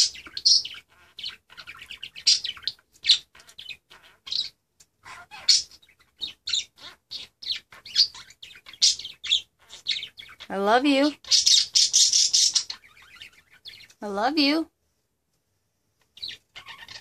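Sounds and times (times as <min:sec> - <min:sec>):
budgies chirping and chattering: 0:00.0 - 0:14.5, 0:16.1 - 0:17.0.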